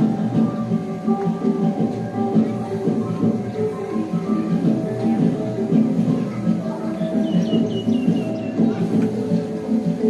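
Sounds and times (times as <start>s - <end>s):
light plucked music over beat: 0.0s - 10.0s.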